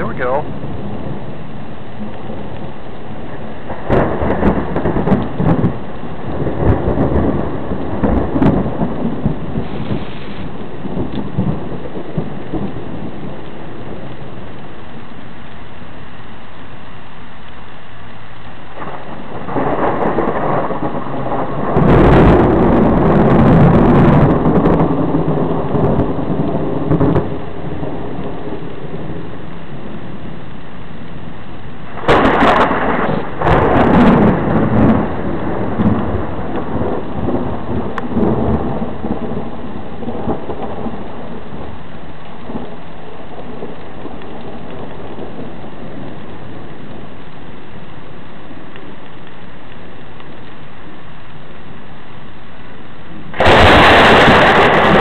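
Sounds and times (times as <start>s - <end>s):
steady rain: 0.0s - 55.0s
thunder rumbling: 0.0s - 55.0s.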